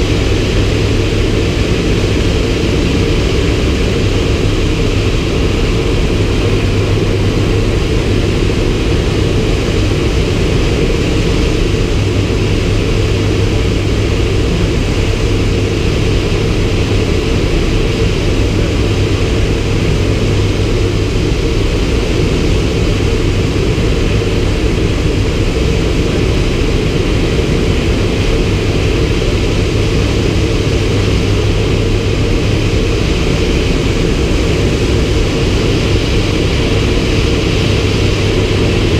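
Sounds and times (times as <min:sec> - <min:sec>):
propeller plane drone in flight: 0:00.0 - 0:38.9.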